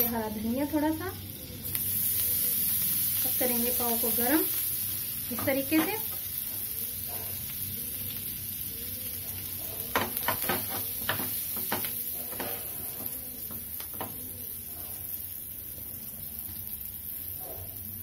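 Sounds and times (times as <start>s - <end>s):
butter sizzling in a pan: 0.0s - 18.0s.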